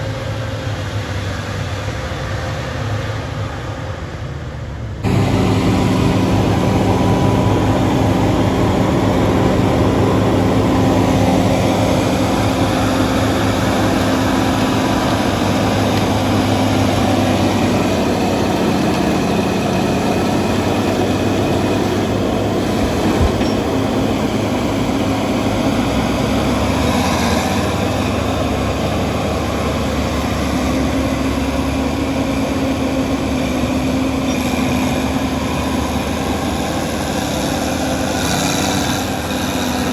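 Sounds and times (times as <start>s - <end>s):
bulldozer diesel engine running: 4.8s - 39.9s.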